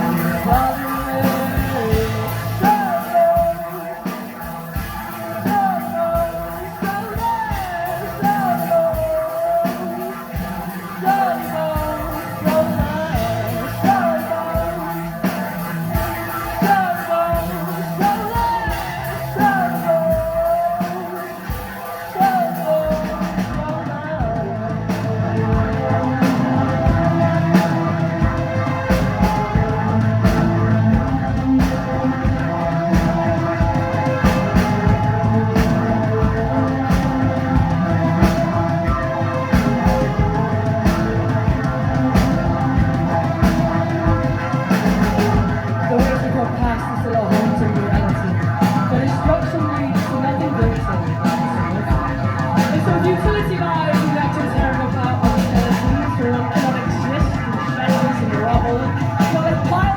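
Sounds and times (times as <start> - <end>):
drum kit beat: 0.0 - 59.9
person singing: 0.0 - 59.9
rock band playing live: 0.0 - 59.9.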